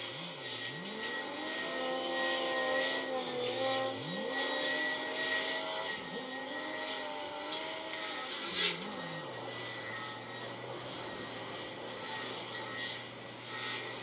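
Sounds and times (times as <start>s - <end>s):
wheel loader engines revving: 0.0s - 13.8s
crane engine running: 0.0s - 14.0s.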